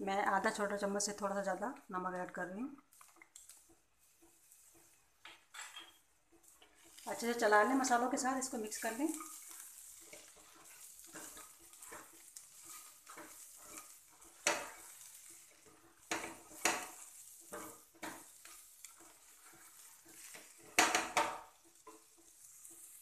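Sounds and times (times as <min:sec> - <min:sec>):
frying sizzle: 0:00.0 - 0:23.0
spatula scraping a pan: 0:02.9 - 0:23.0.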